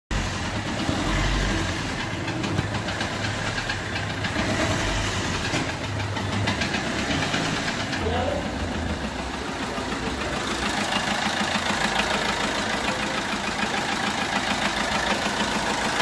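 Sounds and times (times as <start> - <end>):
diesel engine ticking knock: 0.1 - 16.0.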